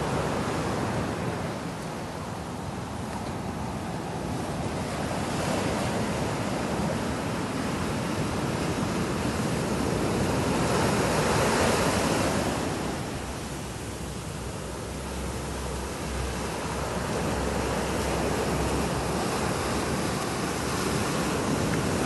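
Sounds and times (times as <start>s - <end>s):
sea surf washing up beach: 0.0s - 22.0s.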